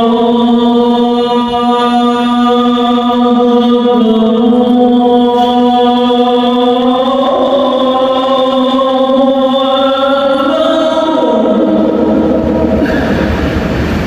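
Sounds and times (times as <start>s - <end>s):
man chanting: 0.0s - 12.9s.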